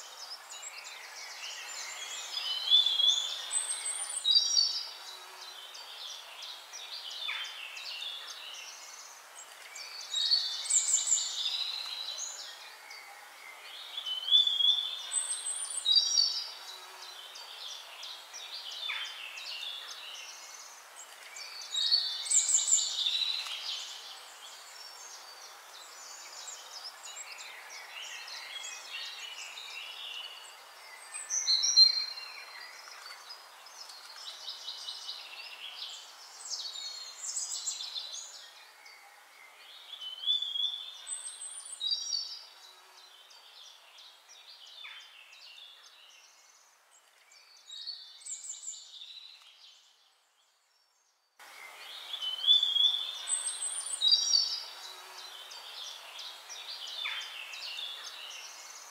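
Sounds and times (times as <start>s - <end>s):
background hiss: 0.0s - 58.9s.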